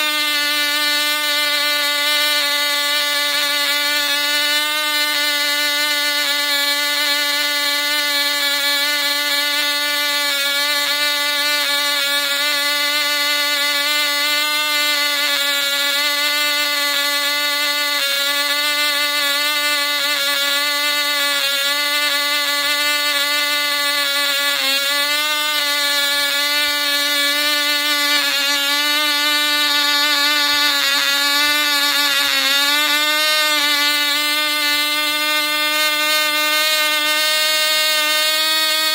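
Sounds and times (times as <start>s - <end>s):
high-pitched model engine: 0.0s - 38.9s.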